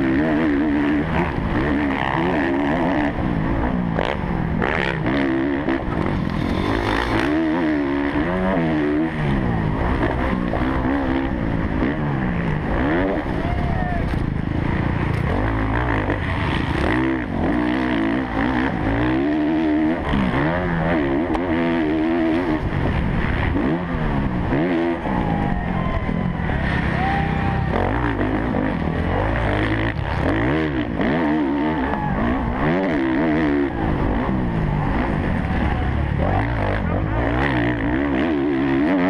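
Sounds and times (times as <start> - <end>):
motocross engine revving: 0.0 - 39.0.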